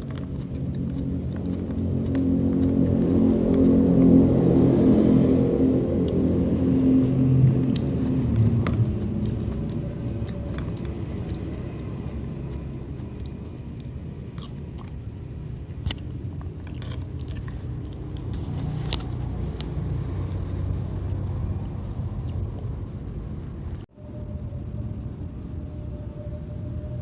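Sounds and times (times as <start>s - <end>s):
person chewing soft fruit: 0.0s - 23.8s
steady low rumble: 0.0s - 27.0s.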